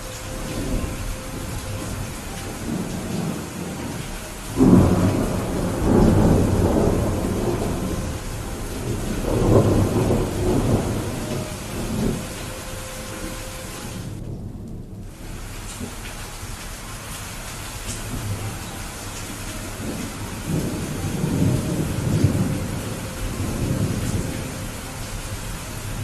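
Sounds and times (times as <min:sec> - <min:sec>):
steady rain: 0:00.0 - 0:26.0
thunder rumbling: 0:00.0 - 0:26.0.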